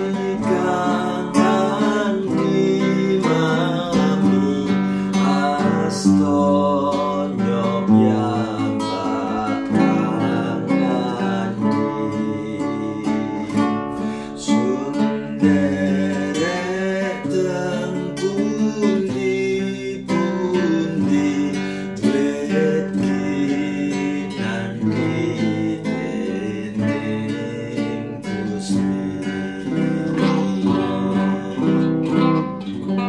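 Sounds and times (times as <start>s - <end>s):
classical guitar strummed and plucked: 0.0s - 33.0s
man singing: 0.0s - 33.0s.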